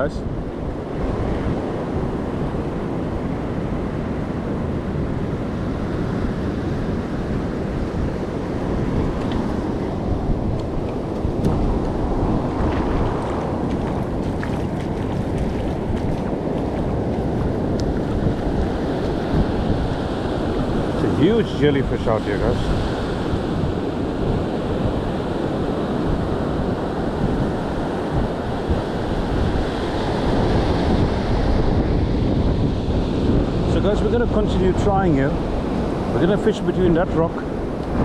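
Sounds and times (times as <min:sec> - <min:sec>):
surf washing onto beach: 0:00.0 - 0:38.0
wind buffeting microphone: 0:00.0 - 0:38.0.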